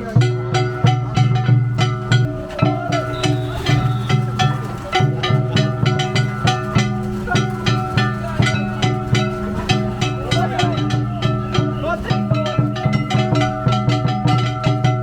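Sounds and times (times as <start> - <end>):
festival drums: 0.0 - 15.0
plucked strings: 0.0 - 15.0.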